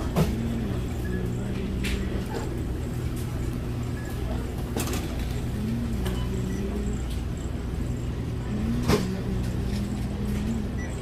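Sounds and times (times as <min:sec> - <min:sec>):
shopping cart wheels rumbling: 0:00.0 - 0:11.0.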